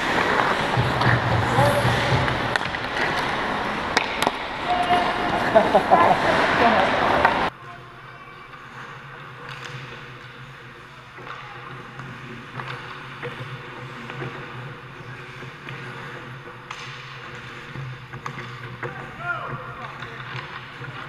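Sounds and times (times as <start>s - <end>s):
skates and sticks scraping ice: 0.0s - 21.0s.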